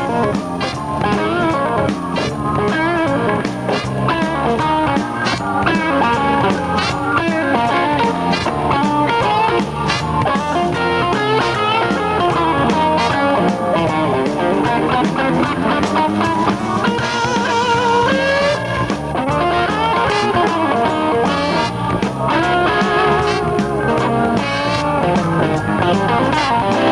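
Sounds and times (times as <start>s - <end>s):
live band with horns and drums: 0.0s - 26.9s.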